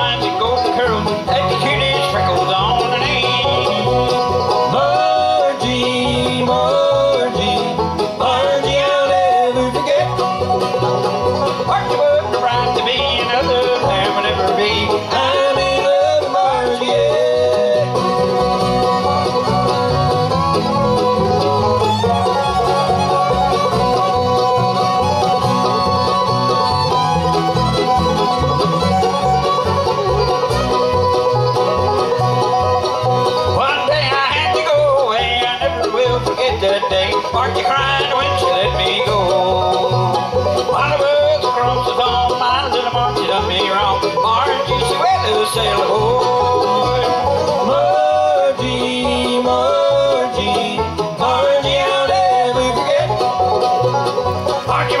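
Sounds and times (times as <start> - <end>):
bluegrass band playing: 0.0 - 55.0.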